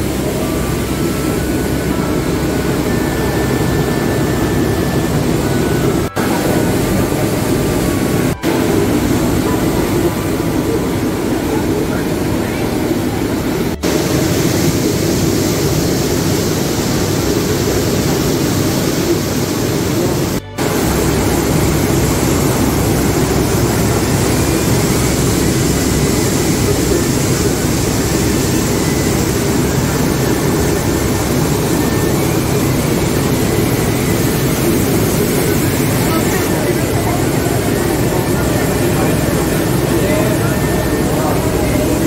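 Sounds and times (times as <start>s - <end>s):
boat engine: 0.0s - 42.0s
churning water wake: 0.0s - 42.0s.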